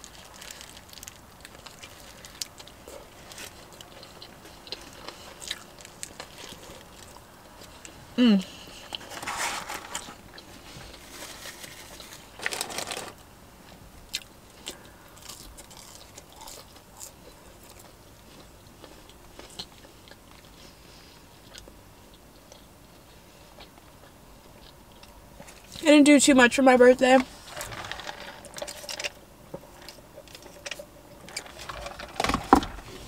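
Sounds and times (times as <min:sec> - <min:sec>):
person chewing a burger: 0:00.0 - 0:25.8, 0:27.4 - 0:32.0.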